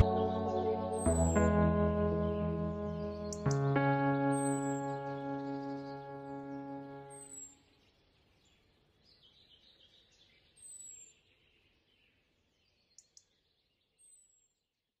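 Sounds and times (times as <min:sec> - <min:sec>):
soft bird chirping: 0:00.0 - 0:14.6.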